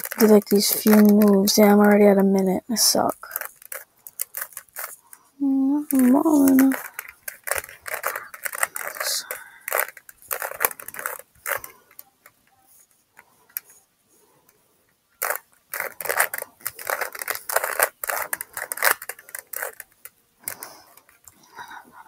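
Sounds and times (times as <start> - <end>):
puzzle cube layers clicking: 0.0 - 5.0, 5.6 - 12.6, 15.2 - 21.4.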